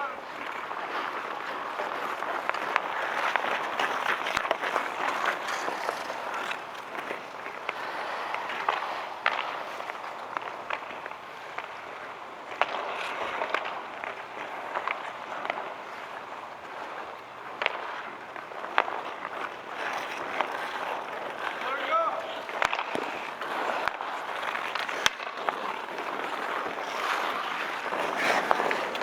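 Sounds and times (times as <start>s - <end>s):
hockey sticks and puck clacking: 0.0s - 29.0s.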